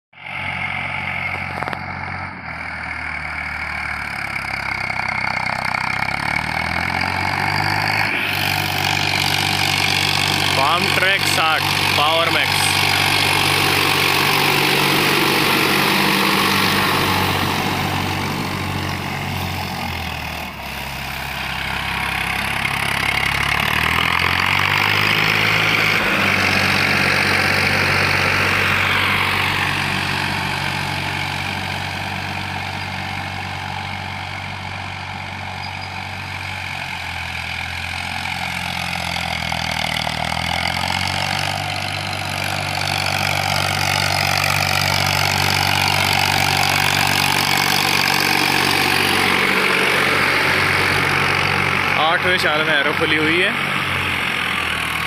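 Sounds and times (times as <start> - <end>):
diesel tractor engine under load: 0.1 - 55.0.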